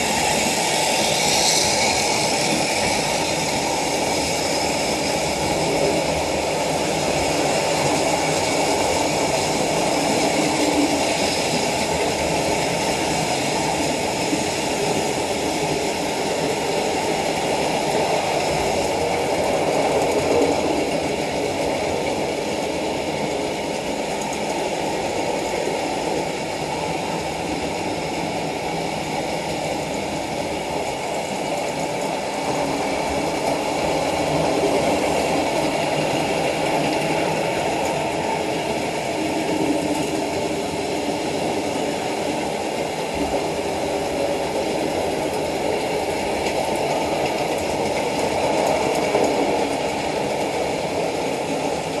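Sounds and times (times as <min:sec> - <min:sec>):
metal wheels rumbling on track: 0:00.0 - 0:52.0.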